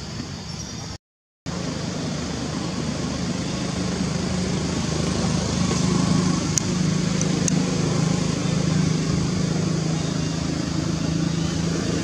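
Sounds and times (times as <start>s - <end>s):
outdoor background noise: 0.0s - 12.0s
motor engine drone: 1.5s - 12.0s.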